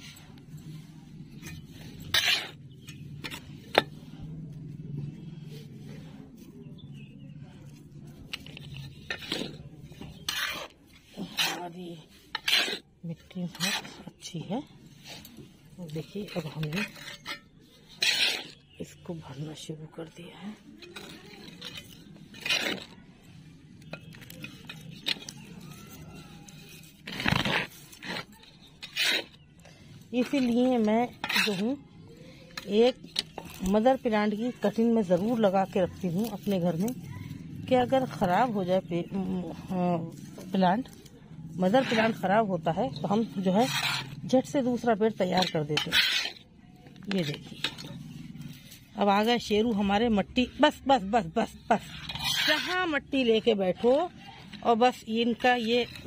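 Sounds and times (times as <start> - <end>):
trowel scraping soil: 0.0 - 4.3, 5.2 - 56.0.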